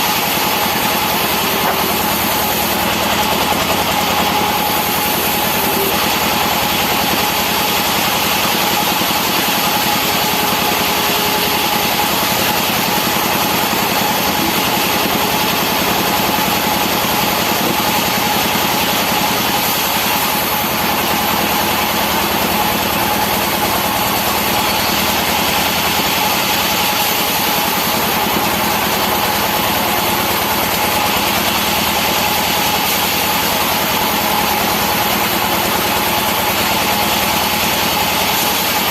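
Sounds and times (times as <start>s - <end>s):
engine noise: 0.0s - 38.9s
sawmill machinery whine: 0.0s - 38.9s.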